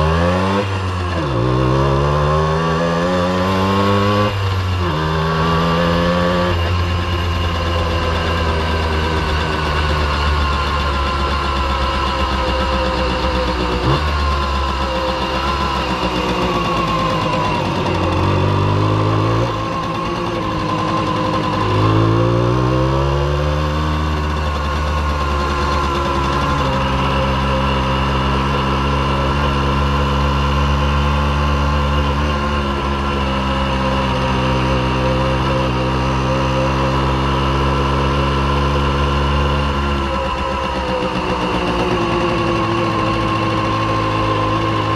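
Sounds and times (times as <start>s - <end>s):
moped two-stroke engine running: 0.0s - 44.9s.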